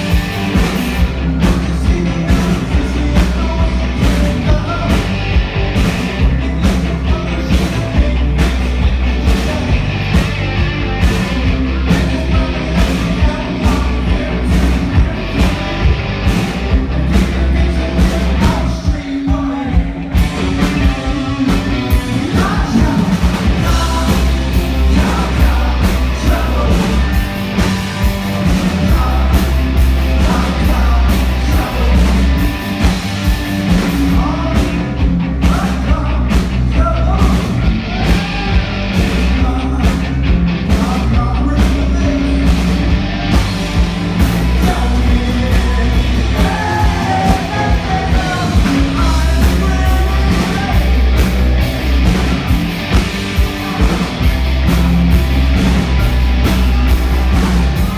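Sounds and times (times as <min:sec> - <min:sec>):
live rock band playing: 0:00.0 - 0:57.9
person singing lead vocal: 0:01.1 - 0:33.0, 0:33.6 - 0:43.1, 0:44.2 - 0:52.5, 0:53.2 - 0:54.3.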